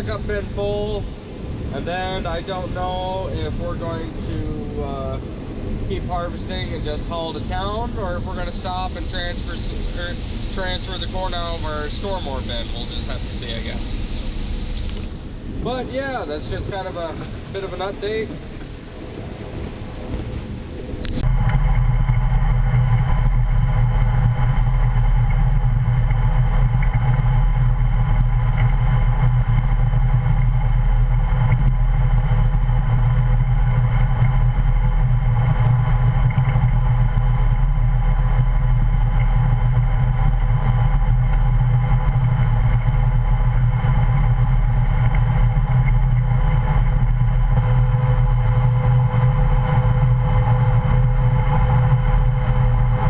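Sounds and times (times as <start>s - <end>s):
low engine hum: 0.0s - 53.0s
machinery whining tones: 0.0s - 53.0s.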